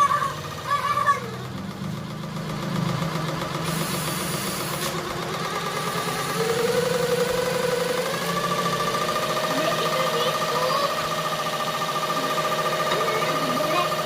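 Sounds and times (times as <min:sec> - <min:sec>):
motor whine: 0:00.0 - 0:14.0.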